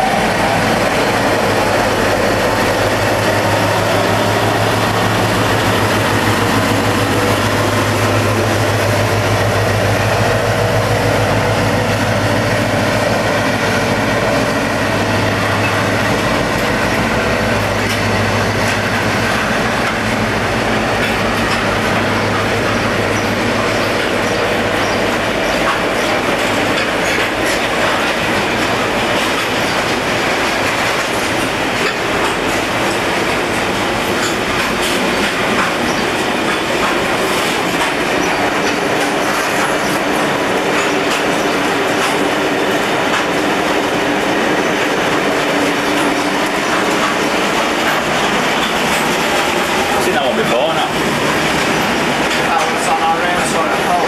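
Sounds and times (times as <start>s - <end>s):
diesel locomotive engine drone: 0.0s - 54.0s
wagons clattering over rail joints: 0.4s - 54.0s.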